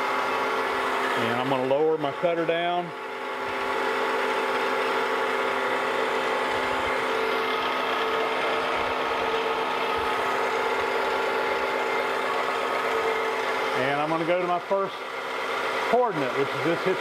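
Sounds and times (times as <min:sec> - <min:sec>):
milling machine whirring: 0:00.0 - 0:17.0.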